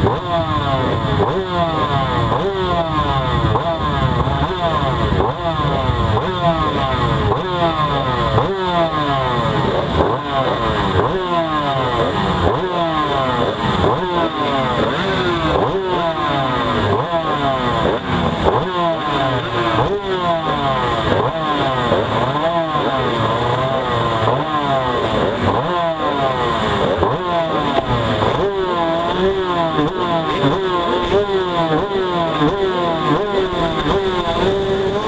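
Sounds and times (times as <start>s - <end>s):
two-stroke motorcycle engines revving: 0.0s - 35.0s.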